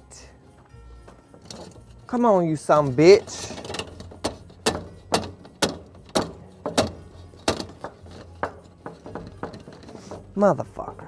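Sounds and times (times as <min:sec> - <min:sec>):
metal latch knocking and rattling: 0:01.0 - 0:11.0.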